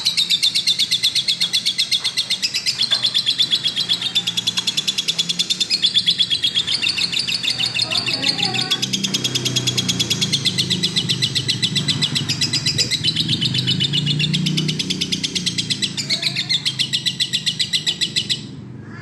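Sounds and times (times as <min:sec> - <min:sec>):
lovebird chattering trill: 0:00.0 - 0:18.5.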